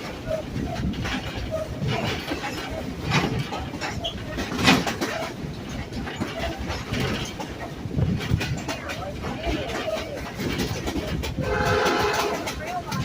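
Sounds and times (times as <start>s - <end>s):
train cars rumbling: 0.0s - 13.0s
wheels clacking over rail joints: 0.0s - 13.0s.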